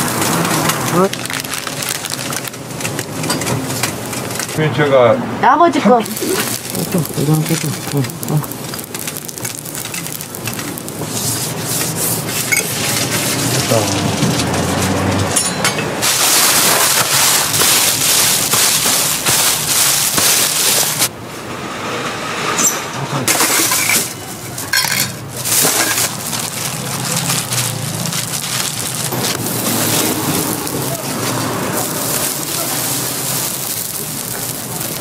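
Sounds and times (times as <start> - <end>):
oil sizzling on a griddle: 0.0 - 4.6, 6.0 - 13.8, 16.0 - 21.1, 23.4 - 35.0.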